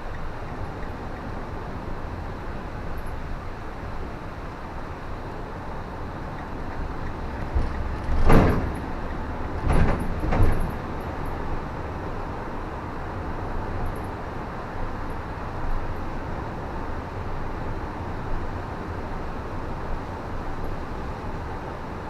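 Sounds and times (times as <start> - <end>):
tyres on wet road: 0.0 - 22.0.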